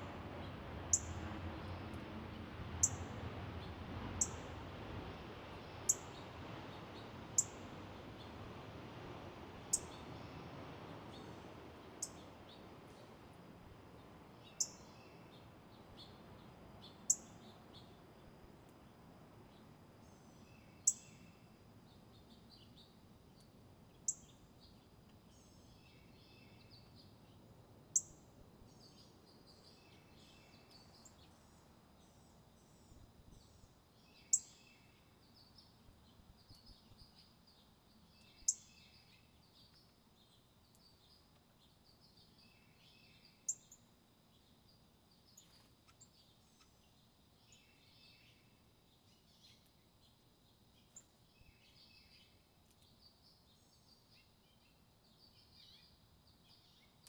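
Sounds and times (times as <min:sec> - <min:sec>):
birds twittering and chirping: 0:00.3 - 0:02.0, 0:02.8 - 0:04.5, 0:05.6 - 0:08.4, 0:09.7 - 0:13.2, 0:13.8 - 0:57.0.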